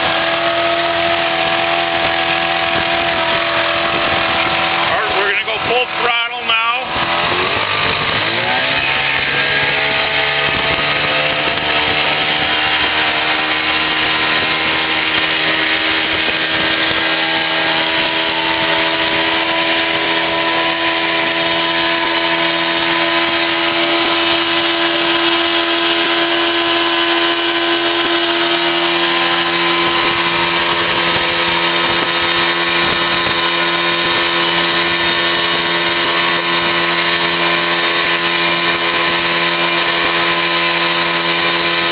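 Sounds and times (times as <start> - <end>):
outboard motor revving: 0.0 - 41.9.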